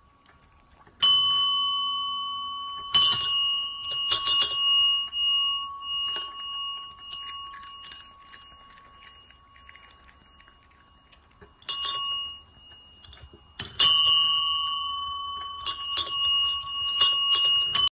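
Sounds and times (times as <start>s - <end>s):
service bells dinging: 1.0s - 17.9s.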